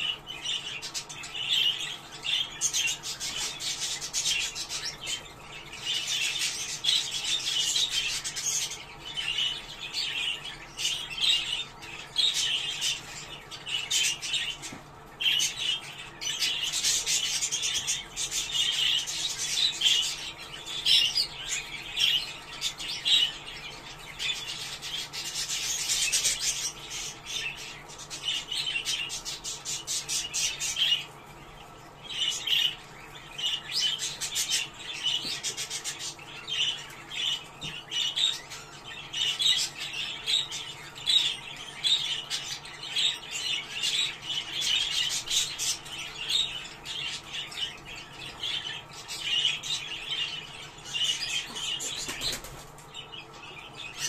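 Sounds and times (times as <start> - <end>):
budgerigars chattering and warbling: 0.0 - 54.0.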